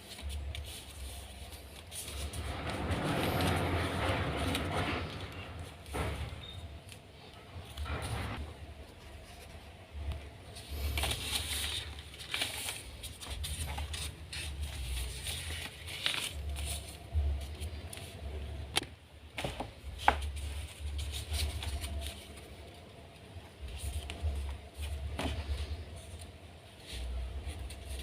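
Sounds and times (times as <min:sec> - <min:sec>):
paper rustling and crinkling: 0:00.0 - 0:28.0.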